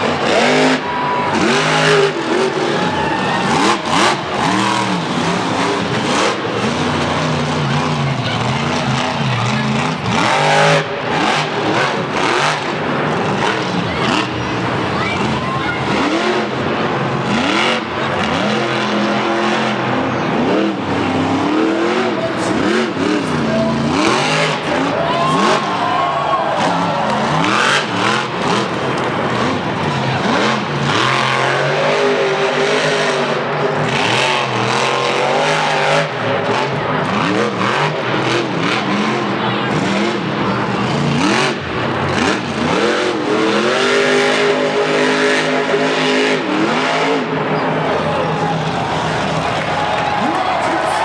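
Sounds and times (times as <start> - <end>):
truck engines revving hard: 0.0 - 51.0.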